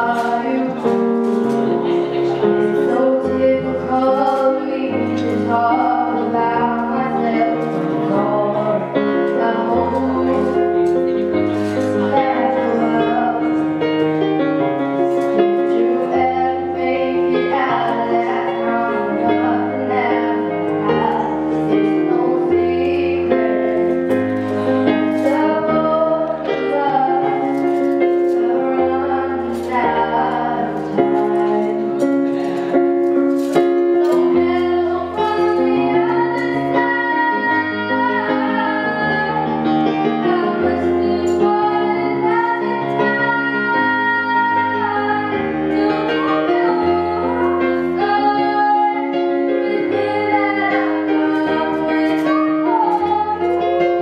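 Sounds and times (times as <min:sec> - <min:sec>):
woman singing a ballad: 0:00.0 - 0:01.0, 0:02.7 - 0:13.9, 0:15.4 - 0:32.0, 0:33.6 - 0:54.0
digital piano chords: 0:00.0 - 0:54.0.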